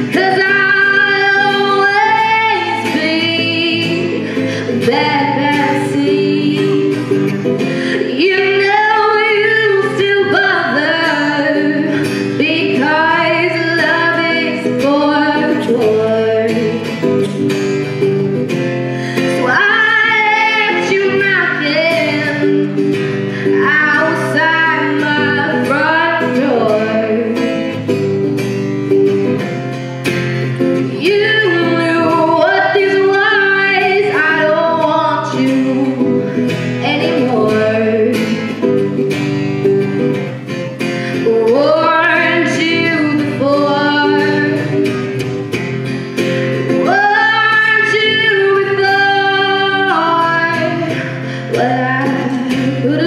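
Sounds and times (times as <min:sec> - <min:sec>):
woman singing: 0:00.0 - 0:28.4, 0:30.3 - 0:53.0
strummed acoustic guitar: 0:00.0 - 0:53.0.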